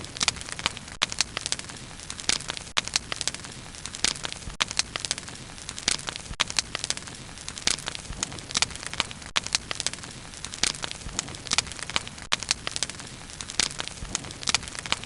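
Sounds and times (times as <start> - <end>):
wood crackling and popping: 0.0 - 15.0.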